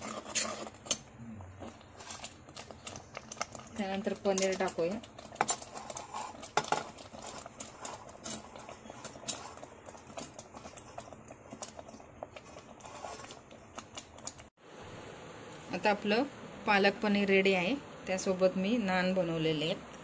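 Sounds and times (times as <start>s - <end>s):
gravy simmering hiss: 0.0s - 18.6s.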